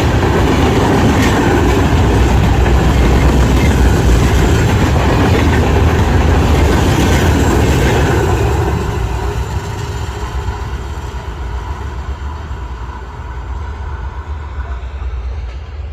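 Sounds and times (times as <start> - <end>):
train passing rumble: 0.0 - 15.9.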